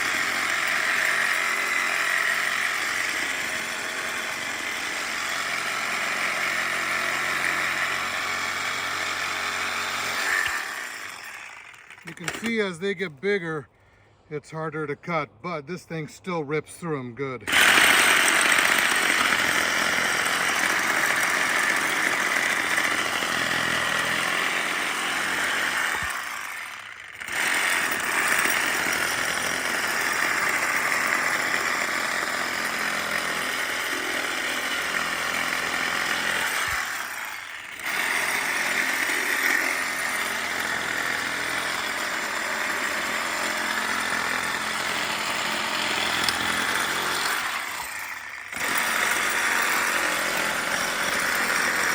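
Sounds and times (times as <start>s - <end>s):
reciprocating saw cutting branches: 0.0s - 13.4s, 17.5s - 51.9s.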